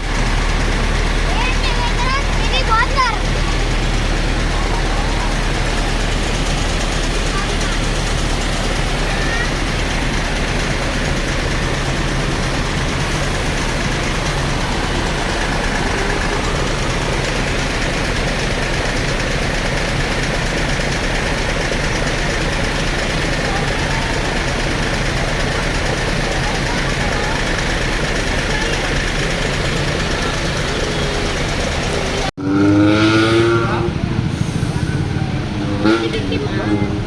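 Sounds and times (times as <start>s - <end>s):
murmur of people talking: 0.0s - 32.3s, 33.4s - 37.0s
diesel bus engine idling: 0.0s - 33.0s, 33.6s - 37.0s.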